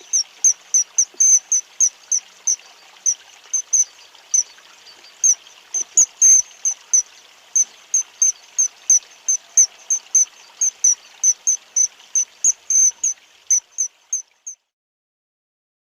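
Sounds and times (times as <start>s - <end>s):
small bird chirping: 0.0s - 14.6s.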